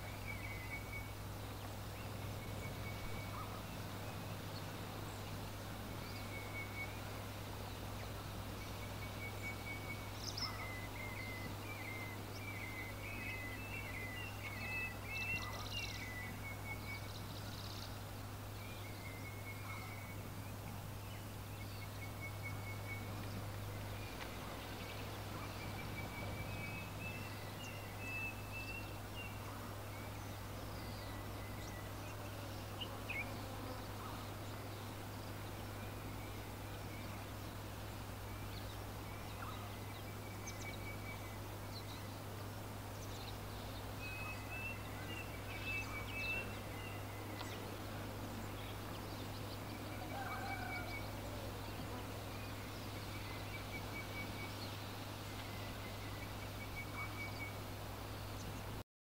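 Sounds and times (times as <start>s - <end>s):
low constant hum: 0.0s - 58.8s
small birds chirping: 0.0s - 58.8s
steady hiss: 0.0s - 58.8s.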